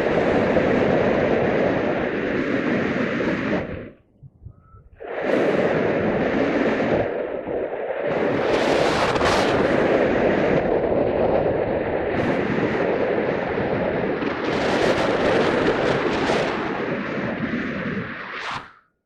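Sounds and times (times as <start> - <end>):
wind buffeting microphone: 0.0 - 18.8.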